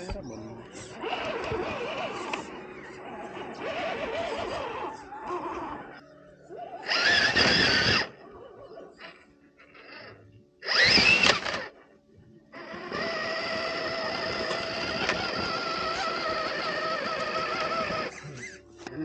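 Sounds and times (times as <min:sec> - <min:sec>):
rc truck motor and gears whining: 0:00.0 - 0:19.0.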